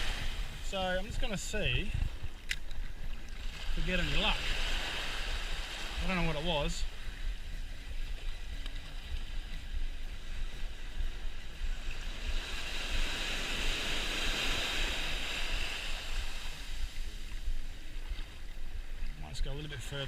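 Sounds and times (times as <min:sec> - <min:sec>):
ocean waves breaking: 0:00.0 - 0:20.0
wind on microphone: 0:00.0 - 0:20.0.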